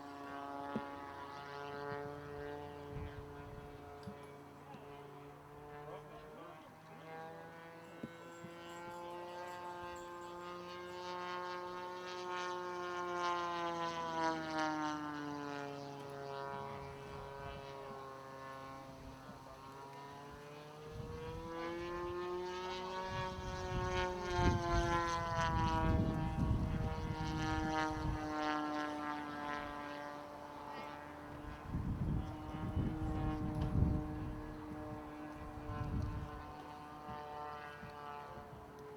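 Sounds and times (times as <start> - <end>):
model plane engine droning: 0.0 - 38.9.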